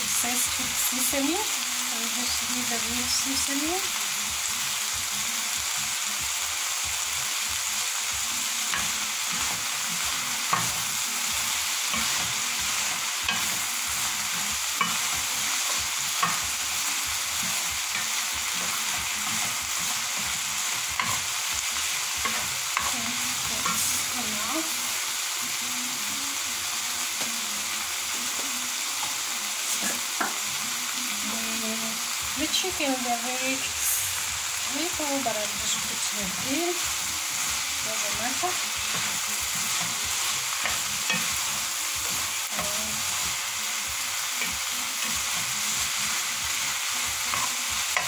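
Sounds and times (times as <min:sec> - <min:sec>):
vegetables sizzling in a pan: 0:00.0 - 0:48.0.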